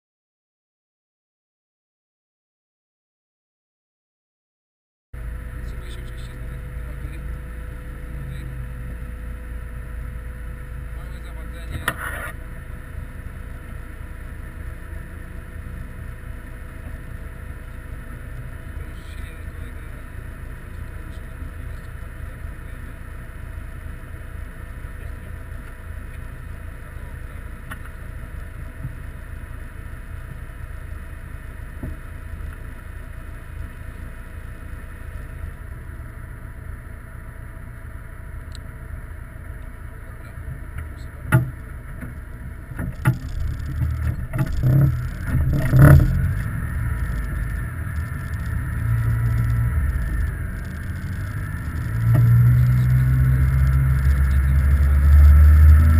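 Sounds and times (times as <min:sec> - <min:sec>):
car engine idling: 0:05.2 - 0:55.9.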